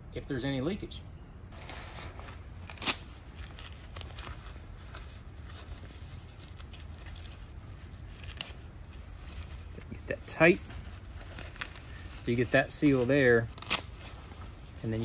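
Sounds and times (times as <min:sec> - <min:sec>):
rain jacket fabric rustling: 0:01.5 - 0:15.0
hook-and-loop strap ripping: 0:02.3 - 0:15.0.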